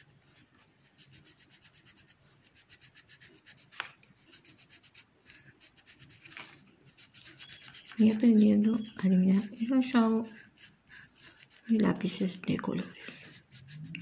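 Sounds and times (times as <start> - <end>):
colored pencil scratching on paper: 0.0 - 14.0.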